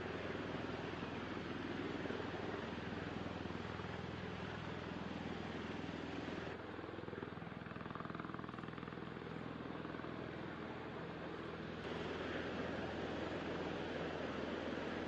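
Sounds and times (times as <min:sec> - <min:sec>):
aircraft engines droning hum: 0:00.0 - 0:15.0.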